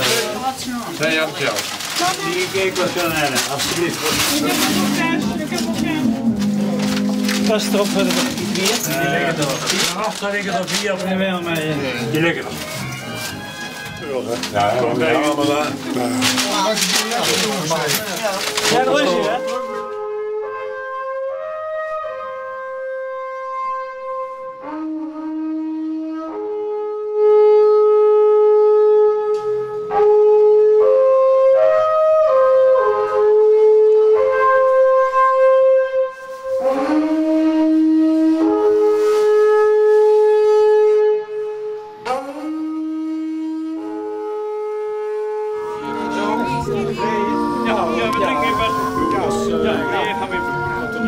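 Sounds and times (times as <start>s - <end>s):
long wooden horn melody: 0.0s - 51.0s.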